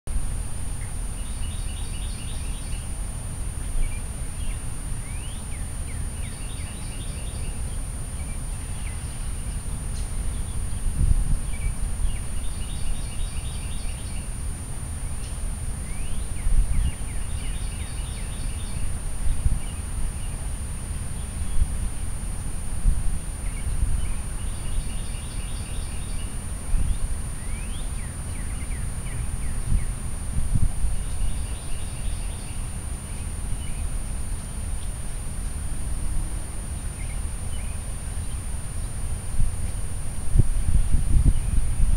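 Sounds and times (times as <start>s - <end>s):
low uneven rumble: 0.1s - 41.9s
songbirds singing: 0.1s - 41.9s.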